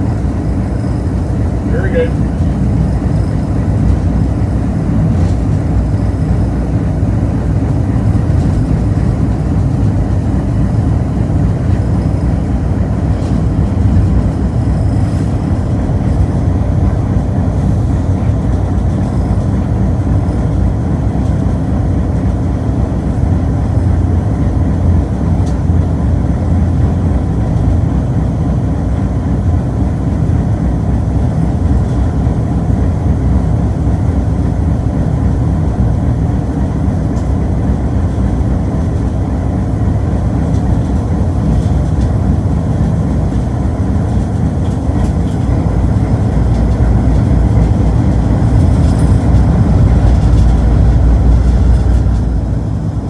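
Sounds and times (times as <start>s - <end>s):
locomotive rumble from cab: 0.0s - 53.0s.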